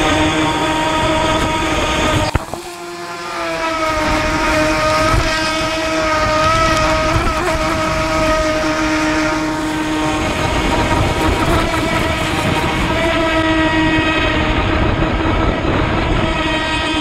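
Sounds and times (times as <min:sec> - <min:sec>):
electric motor whine: 0:00.0 - 0:17.0
wind on microphone: 0:00.0 - 0:17.0.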